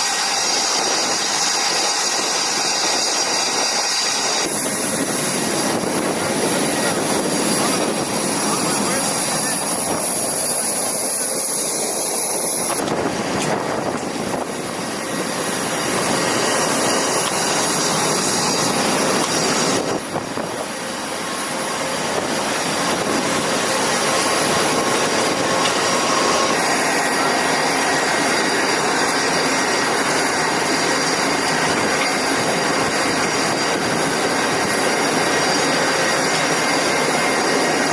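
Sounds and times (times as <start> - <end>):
machinery rushing noise: 0.0 - 37.9.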